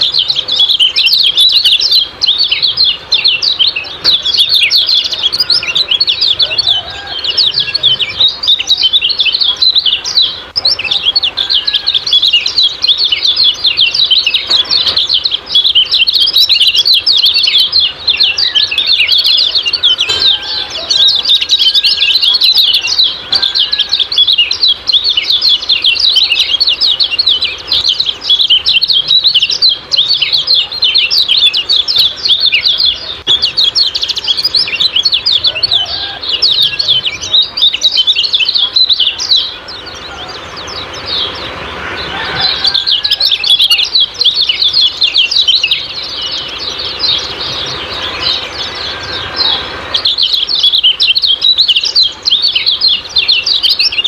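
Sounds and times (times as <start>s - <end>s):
birds chattering: 0.0s - 54.0s.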